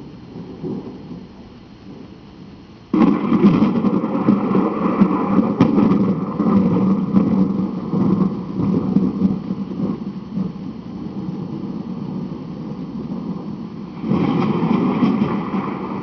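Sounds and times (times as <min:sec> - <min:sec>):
thunderclap: 0:00.0 - 0:02.0, 0:02.9 - 0:16.0
thunder rumbling: 0:00.0 - 0:16.0.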